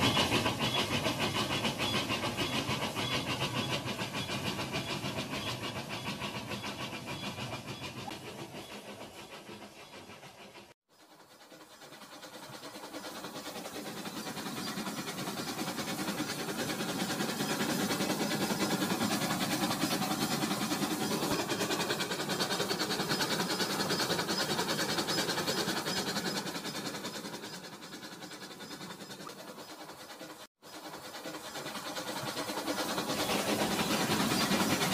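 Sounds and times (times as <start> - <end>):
toy train whirring and rattling: 0.0 - 34.9.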